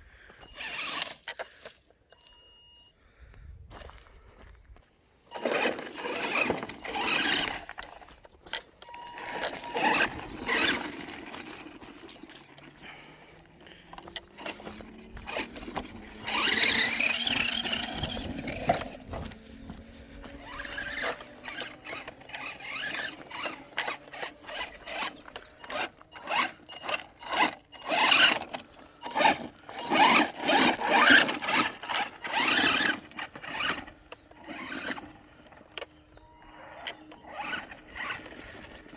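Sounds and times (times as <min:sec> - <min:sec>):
rc truck motor whining: 0:00.3 - 0:02.2, 0:05.3 - 0:38.9
tyres scrabbling over rough ground: 0:05.3 - 0:38.9.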